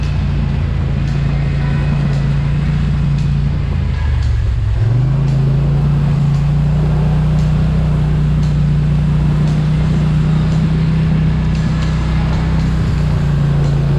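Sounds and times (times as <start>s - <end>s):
off-road vehicle engine running: 0.0s - 13.9s.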